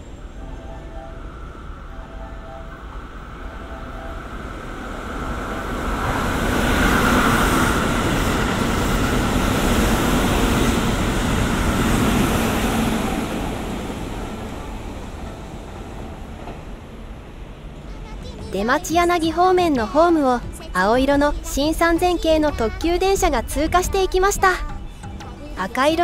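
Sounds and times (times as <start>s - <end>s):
electric train passing at speed: 0.0s - 26.0s.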